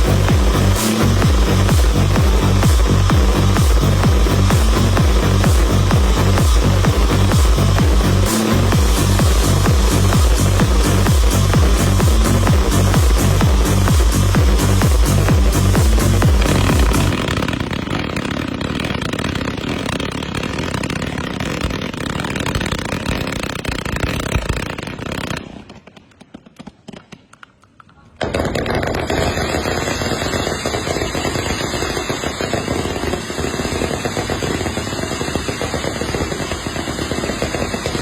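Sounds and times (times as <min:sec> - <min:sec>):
fireworks crackling: 0:00.0 - 0:38.0.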